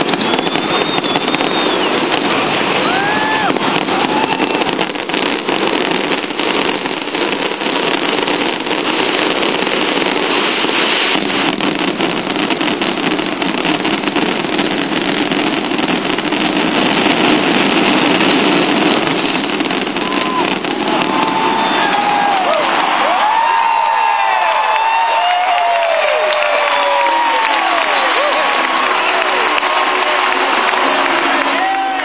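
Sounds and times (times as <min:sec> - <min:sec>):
firework whistle: 0:00.0 - 0:32.0
fireworks bangs and crackling: 0:00.0 - 0:32.0.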